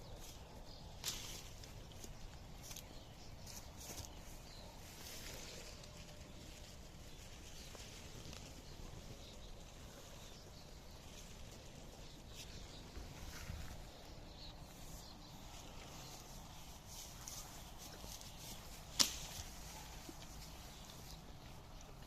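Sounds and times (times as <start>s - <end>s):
faint rural ambience: 0.0s - 22.0s.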